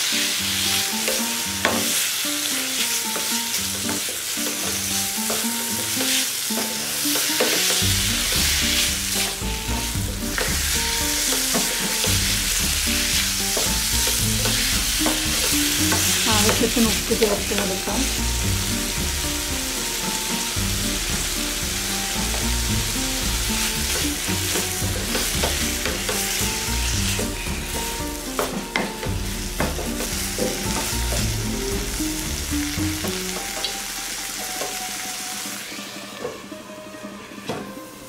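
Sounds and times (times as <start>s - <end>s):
squid sizzling in a frying pan: 0.0s - 36.1s
background music: 0.0s - 38.0s
wooden spatula stirring and scraping: 0.2s - 32.0s.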